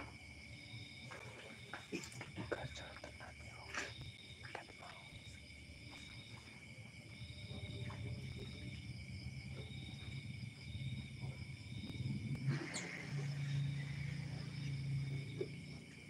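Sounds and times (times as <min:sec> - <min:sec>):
crickets trilling: 0:00.0 - 0:16.0
low steady hum: 0:00.0 - 0:16.0.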